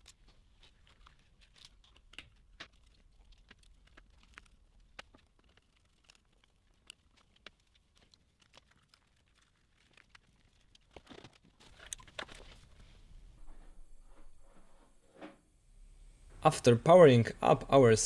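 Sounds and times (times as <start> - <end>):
rustling of handling: 0.0 - 15.5.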